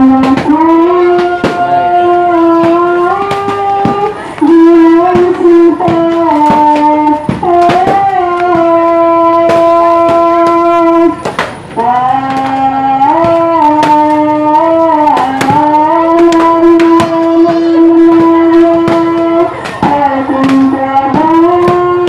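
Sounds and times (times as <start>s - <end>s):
person chanting slow melody: 0.0s - 22.0s
sharp short cracks: 2.6s - 20.9s.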